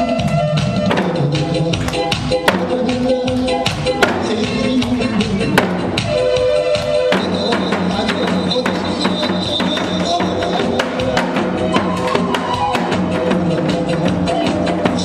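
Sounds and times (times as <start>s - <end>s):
instrumental music with percussive beat: 0.0s - 15.0s.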